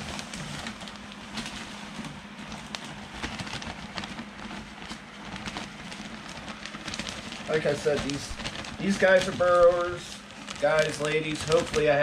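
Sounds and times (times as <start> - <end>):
steady low hum: 0.0 - 12.0
substrate crackling and rustling: 0.0 - 12.0.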